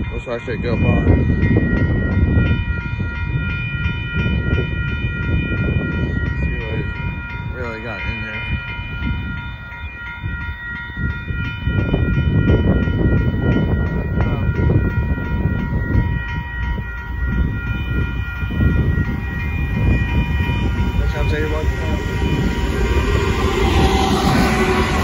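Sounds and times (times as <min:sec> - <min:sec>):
freight train rolling: 0:00.0 - 0:25.0
railroad crossing bell ringing: 0:00.0 - 0:25.0.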